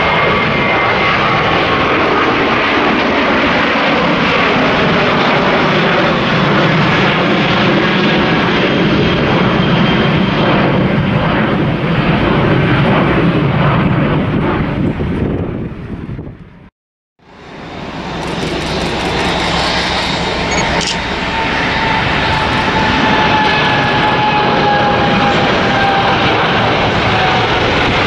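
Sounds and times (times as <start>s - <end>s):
jet airliner engine rumble: 0.0s - 28.0s.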